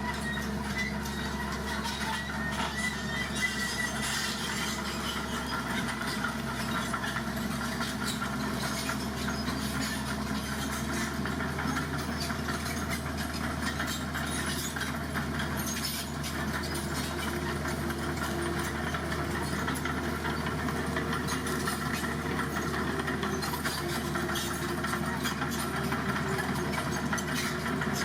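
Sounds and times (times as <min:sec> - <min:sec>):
heavy diesel engine idling: 0:00.0 - 0:28.0.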